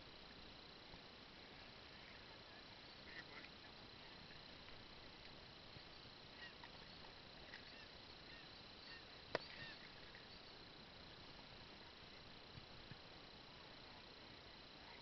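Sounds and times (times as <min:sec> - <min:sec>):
faint steady hiss: 0:00.0 - 0:15.0
thin high whine: 0:00.0 - 0:15.0.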